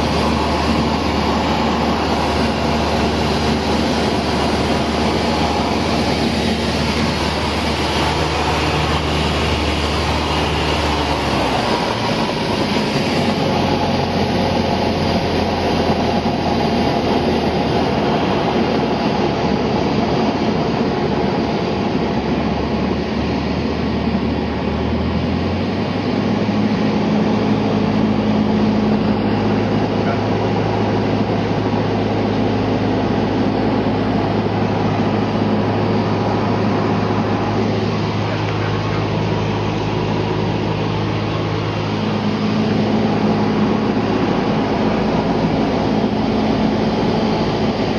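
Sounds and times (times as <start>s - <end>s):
propeller engine droning in cabin: 0.0s - 47.9s.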